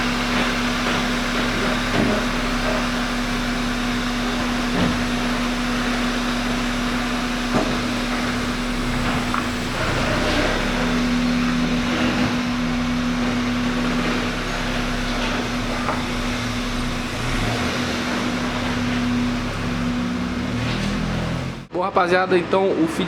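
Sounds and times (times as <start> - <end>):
car engine and road noise: 0.0 - 21.7.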